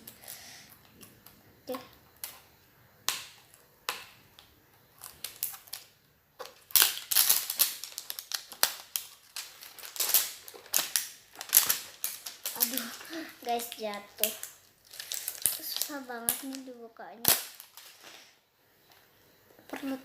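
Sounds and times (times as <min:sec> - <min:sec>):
plastic packaging crinkling and clicking: 0:00.0 - 0:18.4, 0:19.6 - 0:20.0.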